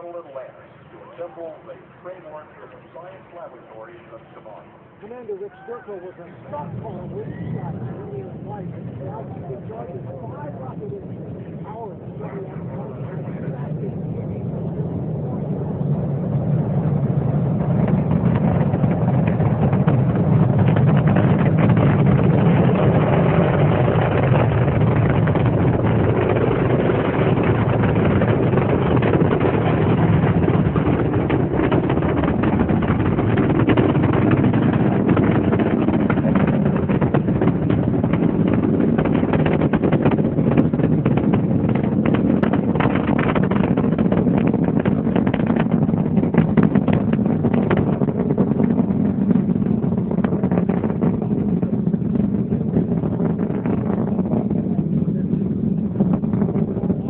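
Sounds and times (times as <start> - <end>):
rocket launch crackling rumble: 0.0 - 57.0.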